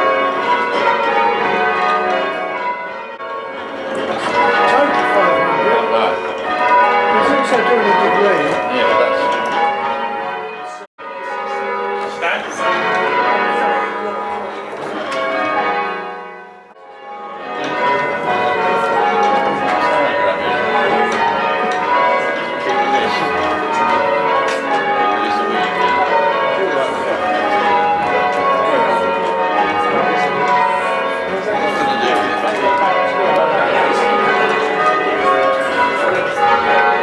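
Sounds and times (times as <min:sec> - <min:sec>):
church bells change ringing: 0:00.0 - 0:37.0.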